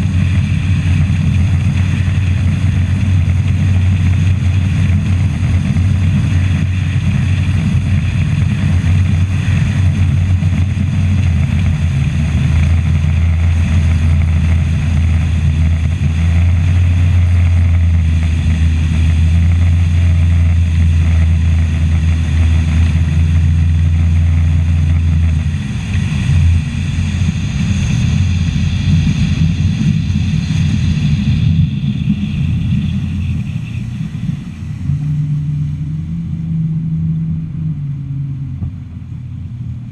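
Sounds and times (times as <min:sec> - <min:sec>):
outboard motor running: 0:00.0 - 0:39.9
water rushing along hull: 0:00.0 - 0:39.9
wind on microphone: 0:00.0 - 0:39.9.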